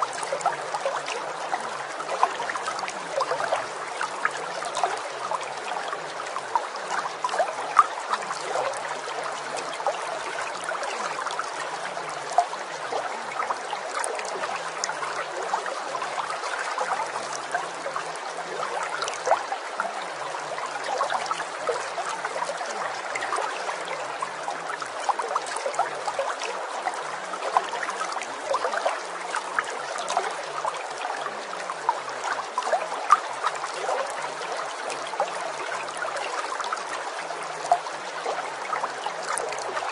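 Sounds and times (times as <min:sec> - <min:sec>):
small water splashes: 0:00.0 - 0:39.9
water trickling: 0:00.0 - 0:39.9.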